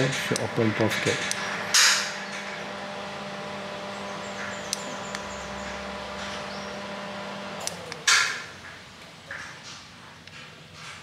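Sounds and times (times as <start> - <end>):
gate motors humming: 0.0 - 10.8.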